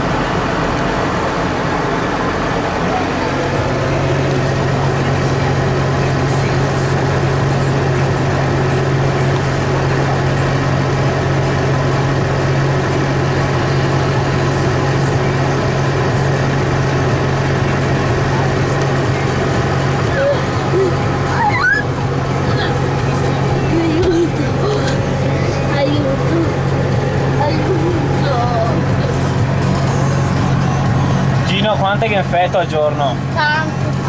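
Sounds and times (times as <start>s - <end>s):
tractor diesel engine idling: 0.0s - 34.0s.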